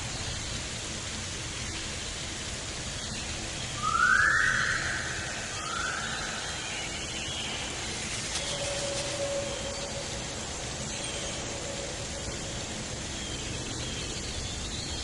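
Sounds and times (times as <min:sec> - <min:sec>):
rushing forest ambience: 0:00.0 - 0:15.0.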